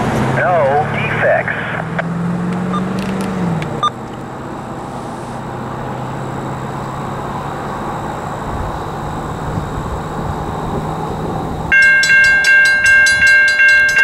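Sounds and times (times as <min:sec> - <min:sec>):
distant diesel locomotive drone: 0:00.0 - 0:14.0.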